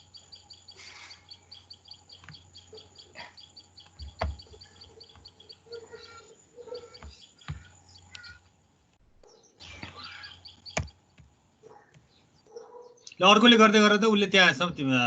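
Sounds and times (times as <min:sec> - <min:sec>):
small bird chirping: 0:00.0 - 0:13.4.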